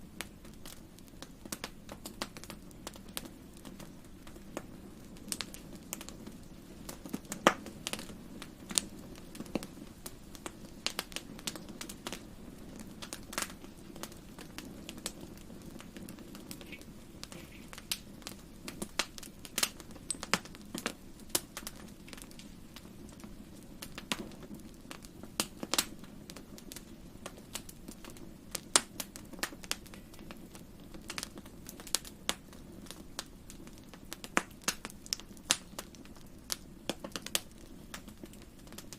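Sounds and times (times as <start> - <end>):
wood fire crackling in a fireplace: 0.0 - 38.9.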